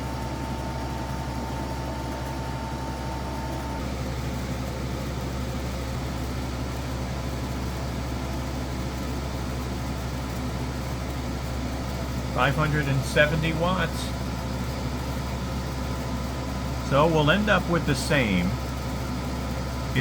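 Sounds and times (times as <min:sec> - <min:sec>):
air conditioner hum and airflow: 0:00.0 - 0:20.0.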